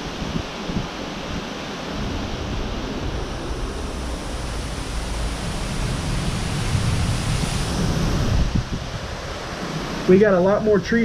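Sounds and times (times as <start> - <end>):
heavy rain pouring: 0.0 - 10.5
wind gusts buffeting microphone: 0.0 - 11.0.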